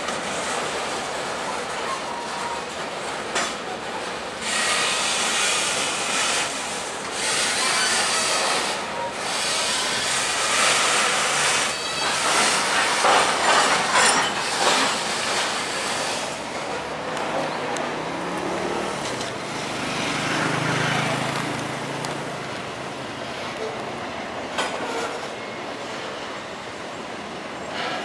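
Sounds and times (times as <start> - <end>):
freight train wheels on rails: 0.0 - 28.0.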